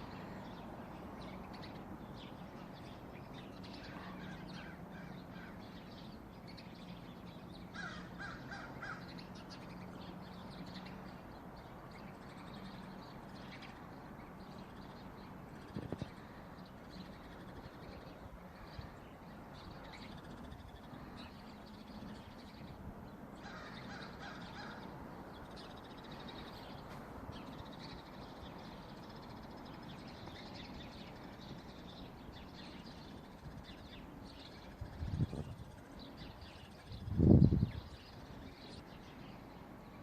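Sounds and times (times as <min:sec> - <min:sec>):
birds calling: 0:00.0 - 0:40.0
lower repeated bird calls: 0:00.0 - 0:40.0.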